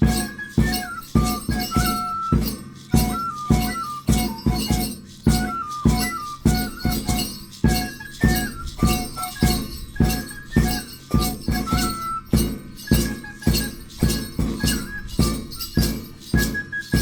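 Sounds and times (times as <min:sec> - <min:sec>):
jingling metal percussion: 0:00.0 - 0:17.0.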